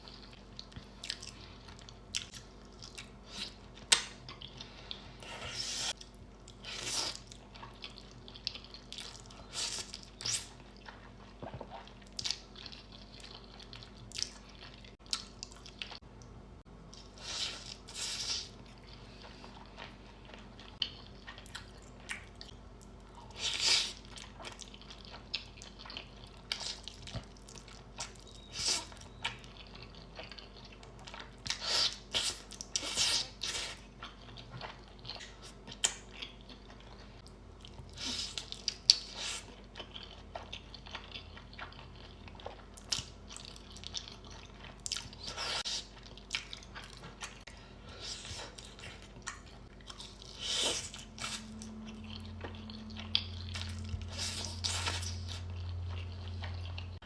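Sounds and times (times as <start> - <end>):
person chewing and crunching: 0.0 - 16.1, 16.9 - 57.0
low steady hum: 0.0 - 57.0.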